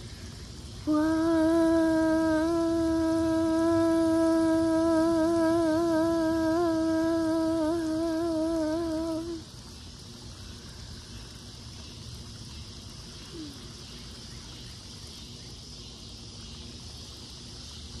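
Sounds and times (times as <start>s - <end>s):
insects chorus: 0.0s - 18.0s
low background rumble: 0.0s - 18.0s.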